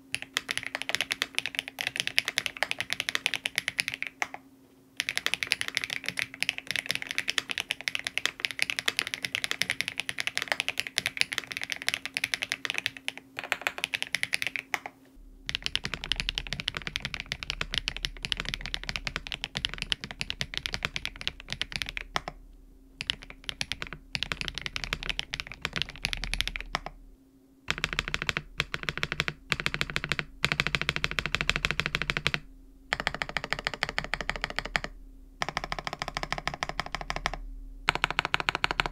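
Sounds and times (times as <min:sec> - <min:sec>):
mechanical keyboard typing: 0:00.0 - 0:04.4, 0:05.0 - 0:22.4, 0:23.0 - 0:27.0, 0:27.7 - 0:38.9.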